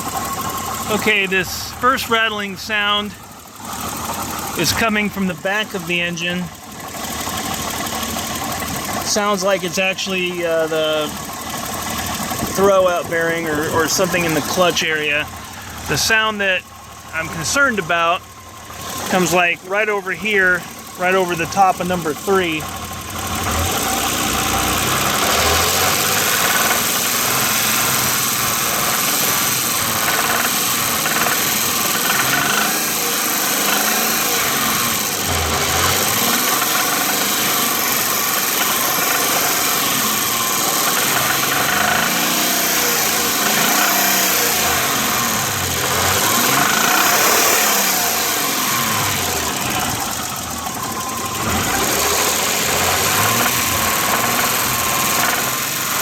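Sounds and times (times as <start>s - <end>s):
car engine revving: 0.0s - 56.0s
engine rattle: 0.0s - 56.0s.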